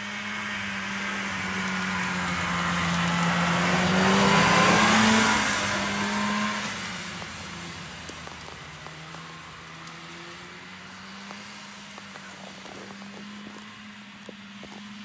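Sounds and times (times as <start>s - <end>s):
snowmobile engine passing by: 0.0s - 15.0s
track hissing on snow: 0.0s - 15.0s.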